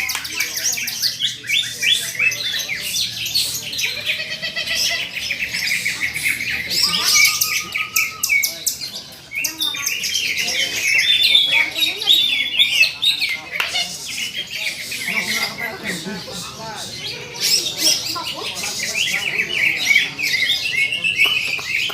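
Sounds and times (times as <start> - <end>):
birds singing rapid chirps and trills: 0.0 - 21.9.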